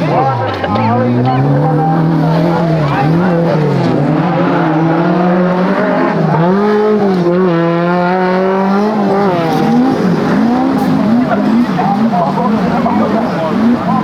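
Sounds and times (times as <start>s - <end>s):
engine revving at high revs: 0.0s - 14.0s.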